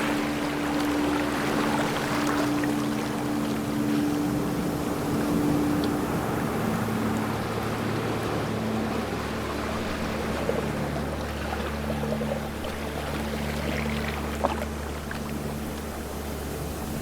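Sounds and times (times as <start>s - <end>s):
low engine-like hum: 0.0s - 17.0s
sea water surging: 0.0s - 17.0s.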